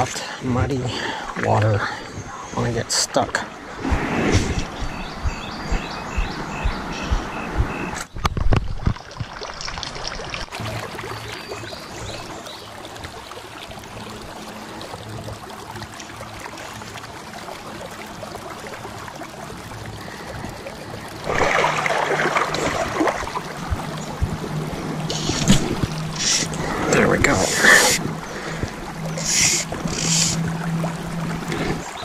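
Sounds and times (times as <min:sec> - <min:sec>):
creek water running: 0:00.0 - 0:32.0
rough rush of water: 0:00.0 - 0:32.0.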